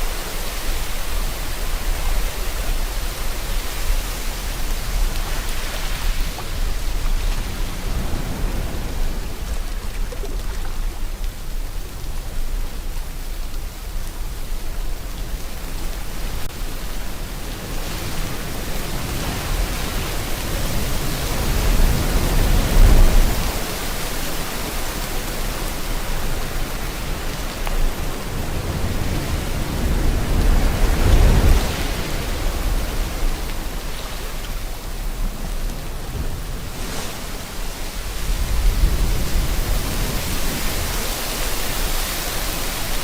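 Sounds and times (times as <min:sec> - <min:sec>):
sea waves breaking: 0:00.0 - 0:11.6, 0:16.0 - 0:43.0
rain hiss: 0:00.0 - 0:43.0.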